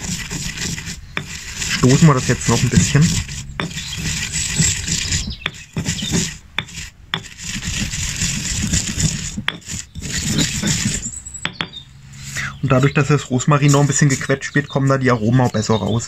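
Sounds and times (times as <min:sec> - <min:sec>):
pestle grinding in stone mortar: 0:00.0 - 0:13.0.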